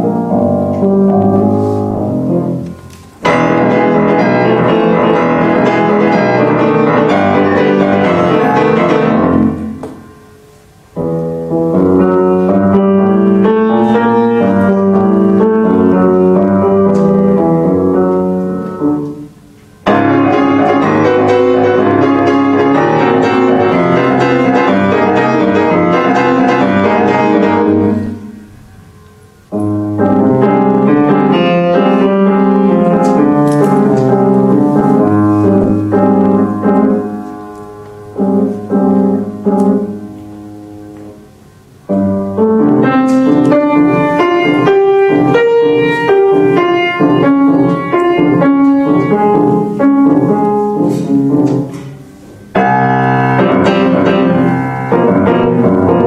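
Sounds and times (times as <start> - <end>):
solo grand piano piece: 0.0 - 56.0.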